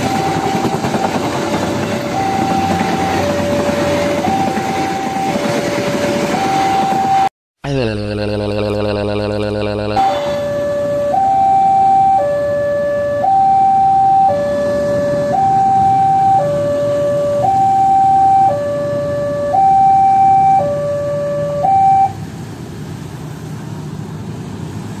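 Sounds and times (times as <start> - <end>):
two-tone electronic alarm: 0.0 - 1.3, 2.0 - 7.3, 8.0 - 22.2.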